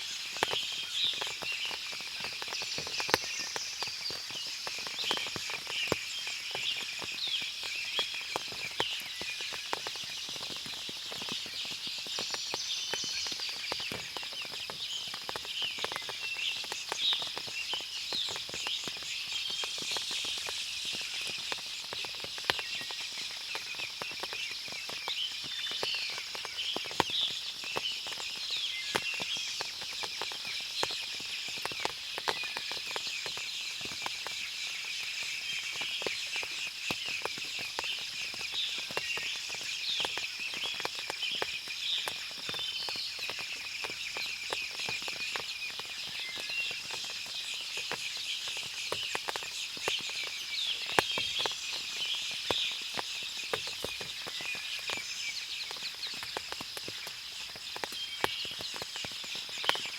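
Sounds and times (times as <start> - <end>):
water dripping from trees: 0.0 - 59.9.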